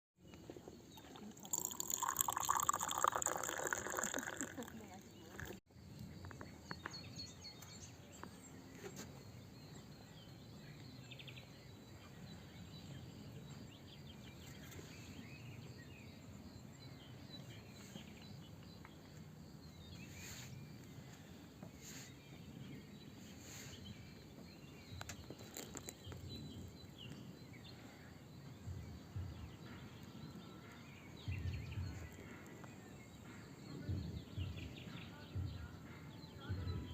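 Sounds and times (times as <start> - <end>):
faint bird chirps: 0.3 - 36.9.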